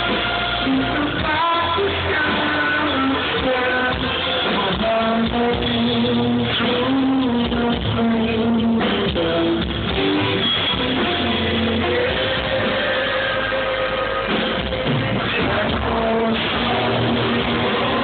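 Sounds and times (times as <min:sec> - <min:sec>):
electric guitar sustained notes: 0:00.0 - 0:18.0
live rock band playing: 0:00.0 - 0:18.0.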